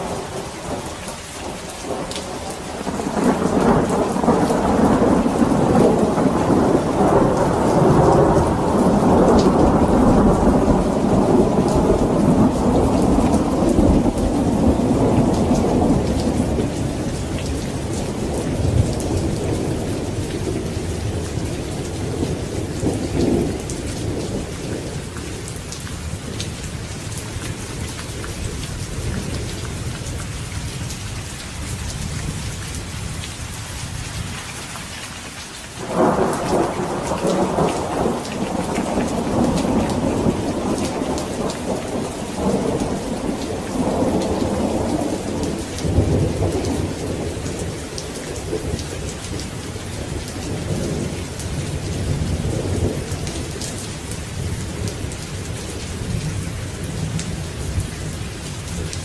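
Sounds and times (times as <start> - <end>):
rolling thunder: 0.0 - 30.8, 35.8 - 58.9
steady rain: 0.0 - 59.0.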